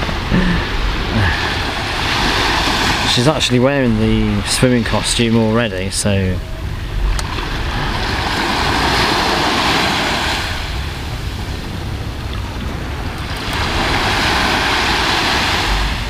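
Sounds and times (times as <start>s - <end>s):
waves washing onto pebble shore: 0.0s - 5.1s, 7.2s - 16.0s
wind on microphone: 0.0s - 16.0s.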